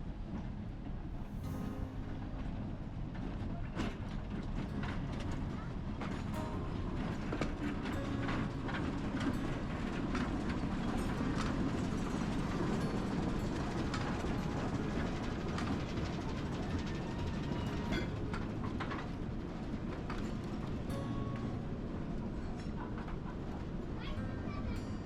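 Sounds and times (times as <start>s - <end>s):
train rumbling on rails: 0.0s - 25.0s
wheels clicking and knocking: 2.3s - 24.7s.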